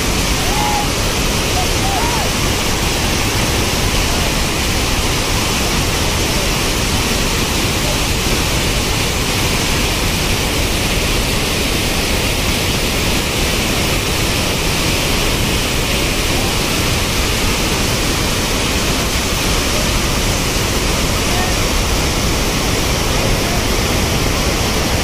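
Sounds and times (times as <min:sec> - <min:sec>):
water rushing over dam: 0:00.0 - 0:25.0.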